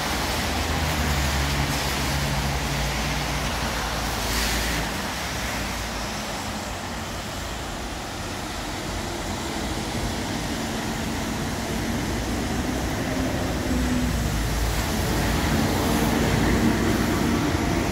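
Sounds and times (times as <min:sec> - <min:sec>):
steady rain: 0:00.0 - 0:17.9
tyres on wet road: 0:00.0 - 0:17.9.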